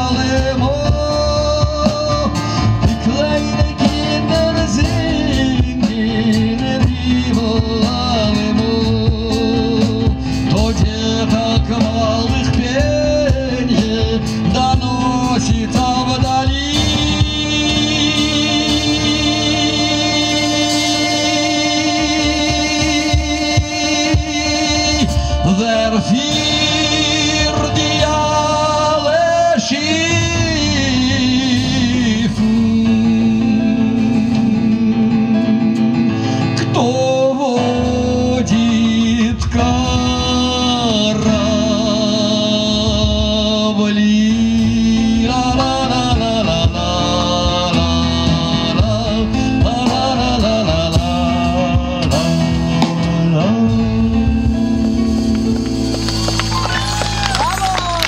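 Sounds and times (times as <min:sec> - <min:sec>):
double bass: 0:00.0 - 0:58.0
keyboard: 0:00.0 - 0:58.0
man singing: 0:00.0 - 0:58.0.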